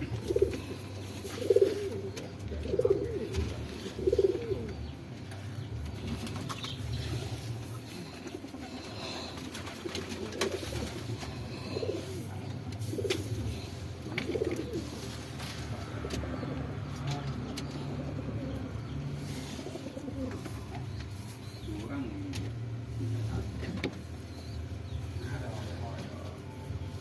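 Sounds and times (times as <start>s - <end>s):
birds cooing: 0.0s - 26.4s
steady low hum: 0.0s - 27.0s.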